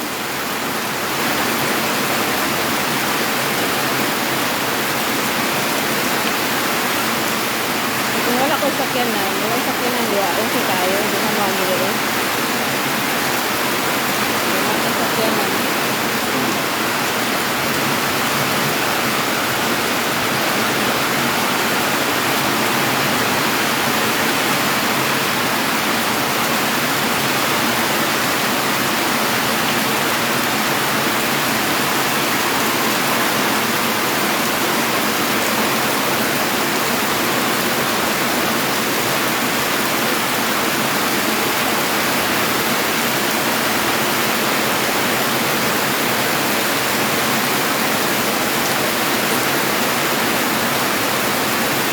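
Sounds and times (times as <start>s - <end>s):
heavy rain and rushing floodwater: 0.0s - 51.9s.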